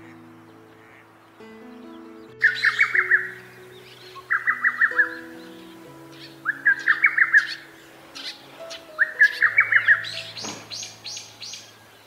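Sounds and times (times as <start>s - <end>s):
cuckoo singing staccato song: 1.8s - 11.7s.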